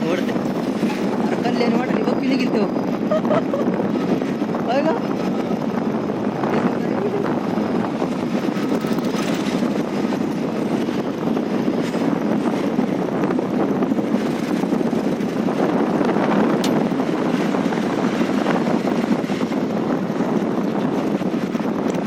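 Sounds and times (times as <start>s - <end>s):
vehicle rumble: 0.0s - 22.0s
wind buffeting microphone: 0.0s - 22.0s.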